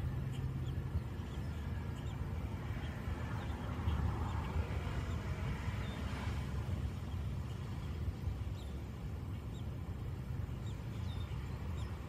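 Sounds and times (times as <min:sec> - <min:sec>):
nestlings peeping: 0:00.0 - 0:12.0.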